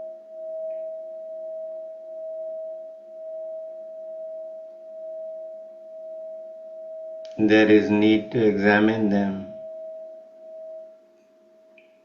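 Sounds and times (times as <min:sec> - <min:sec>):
steady pure tone: 0:00.0 - 0:12.0.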